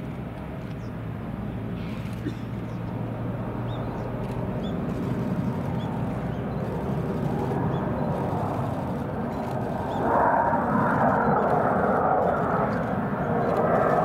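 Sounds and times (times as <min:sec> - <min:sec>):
distant jet engine rumble: 0:00.0 - 0:14.0.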